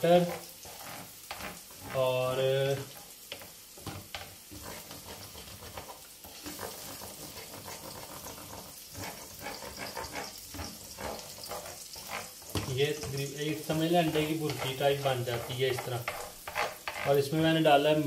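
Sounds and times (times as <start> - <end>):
food sizzling in a pan: 0.0 - 18.0
wooden spatula scraping: 0.0 - 18.0.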